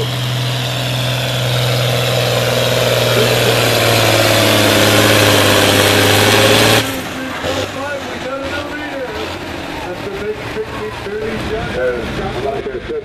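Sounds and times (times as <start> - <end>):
tractor engine running under load: 0.0 - 12.6.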